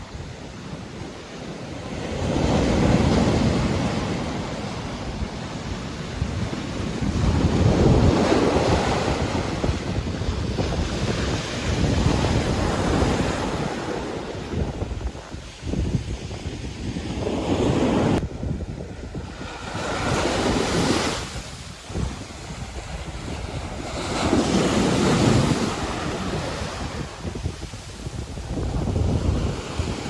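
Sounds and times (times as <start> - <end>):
ocean waves breaking on shore: 0.0 - 30.0.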